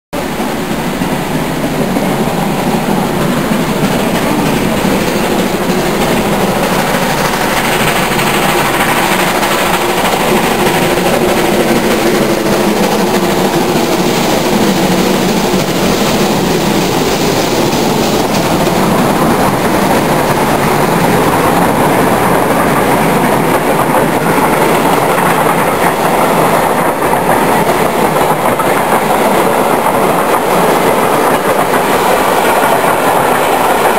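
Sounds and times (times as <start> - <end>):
passenger coaches rolling by: 0.2 - 33.9
steam locomotives working: 0.2 - 33.9.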